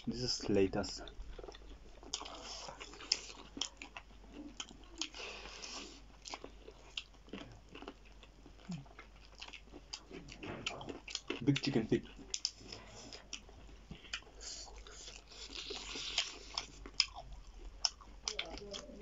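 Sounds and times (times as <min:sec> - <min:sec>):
wet chewing and crunching: 0:00.0 - 0:19.0.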